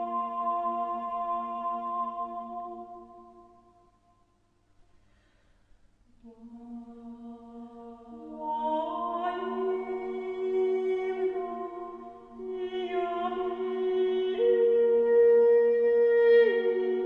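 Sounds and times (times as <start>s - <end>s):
slow ambient music: 0.0s - 4.4s, 6.2s - 17.0s.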